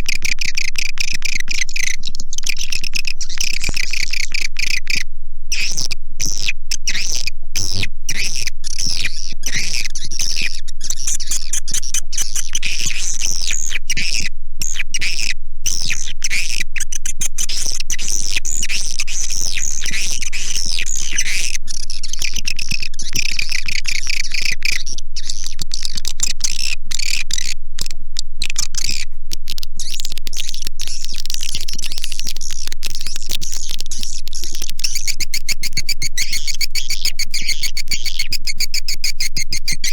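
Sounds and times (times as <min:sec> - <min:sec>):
swiftlet calls twittering: 0:00.0 - 0:14.3, 0:16.8 - 0:39.9.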